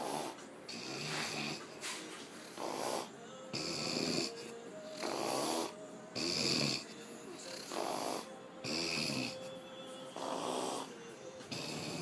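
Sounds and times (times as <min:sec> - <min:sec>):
woman snoring heavily: 0:00.0 - 0:01.6, 0:02.4 - 0:06.9, 0:07.5 - 0:09.4, 0:10.2 - 0:12.0.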